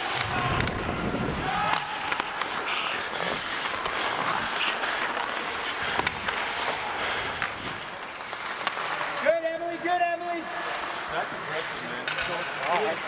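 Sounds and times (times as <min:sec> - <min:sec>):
hockey sticks and puck clicking: 0:00.0 - 0:13.0
skates scraping on ice: 0:00.0 - 0:13.0.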